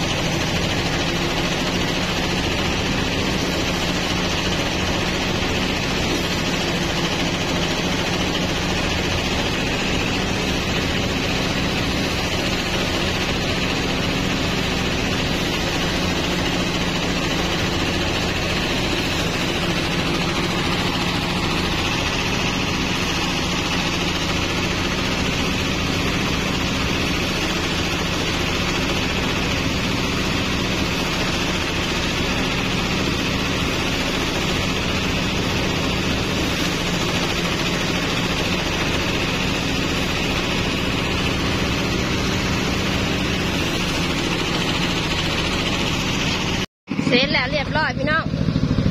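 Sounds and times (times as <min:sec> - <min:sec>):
rice sheaves being threshed: 0:00.0 - 0:46.6
threshing machine running: 0:00.0 - 0:48.9.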